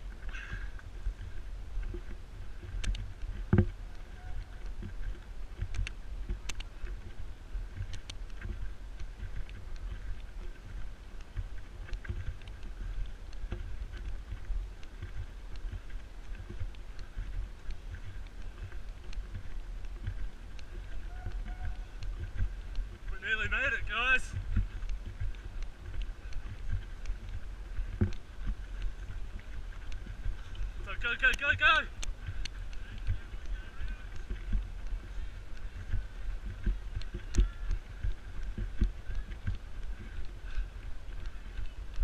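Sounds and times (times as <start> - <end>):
wind rumble: 0.0 - 42.0.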